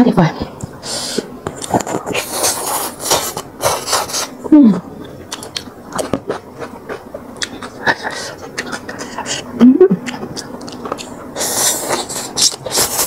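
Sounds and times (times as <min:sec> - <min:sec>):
chewing crunchy food: 0:01.4 - 0:04.4, 0:05.0 - 0:13.0.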